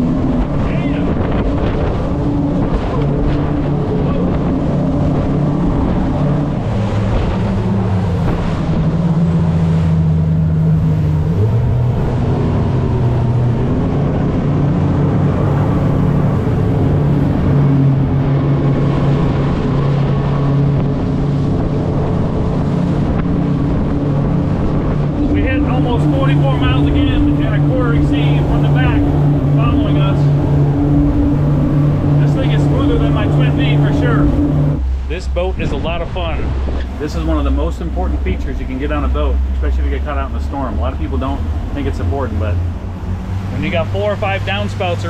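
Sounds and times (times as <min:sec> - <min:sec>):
wind rushing: 0:00.0 - 0:44.2
outboard engines droning: 0:00.0 - 0:45.0.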